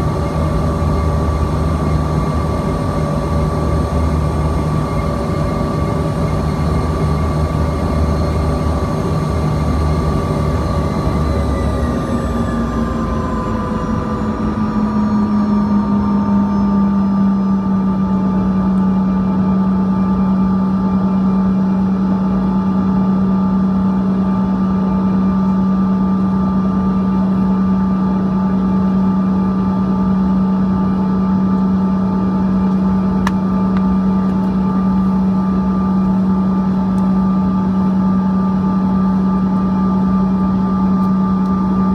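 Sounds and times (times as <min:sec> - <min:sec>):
jet engine cabin drone: 0:00.0 - 0:41.9.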